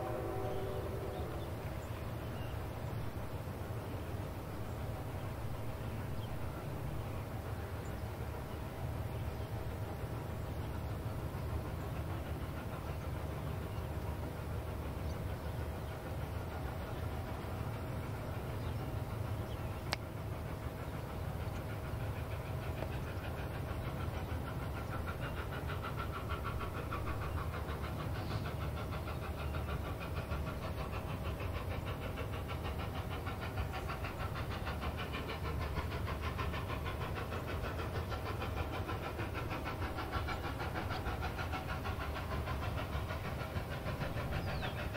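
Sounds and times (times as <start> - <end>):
steam locomotive chuffing: 0.0 - 44.9.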